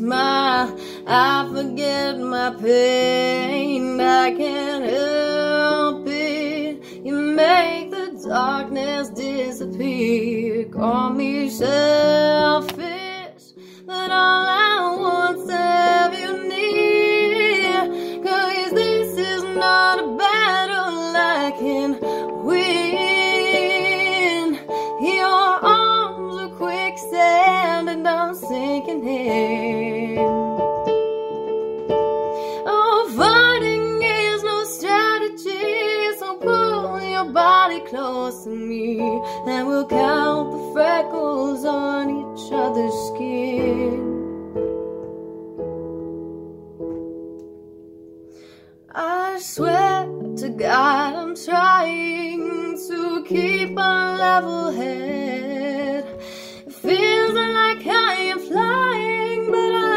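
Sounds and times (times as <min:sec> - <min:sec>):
woman singing slow song: 0:00.0 - 0:31.0, 0:32.4 - 0:44.3, 0:48.9 - 0:59.9
piano chords: 0:00.0 - 0:59.9.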